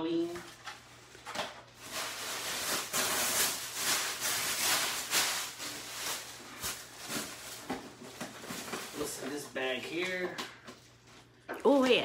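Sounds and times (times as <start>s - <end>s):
bubble wrap and paper crinkling: 0.4s - 12.0s.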